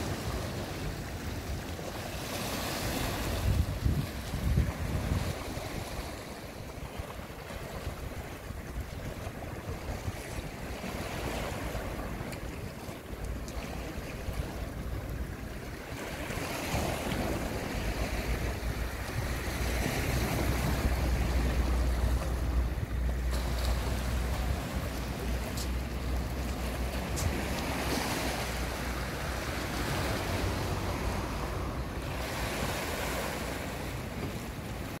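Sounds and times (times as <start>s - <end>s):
waves washing against seawall: 0.0s - 35.0s
wind rumble on microphone: 0.0s - 35.0s.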